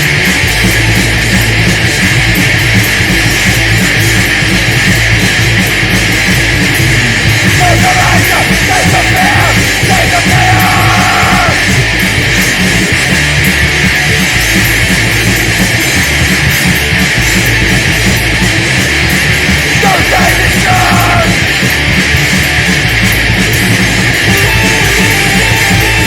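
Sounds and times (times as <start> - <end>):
heavily distorted heavy music: 0.0 - 26.0.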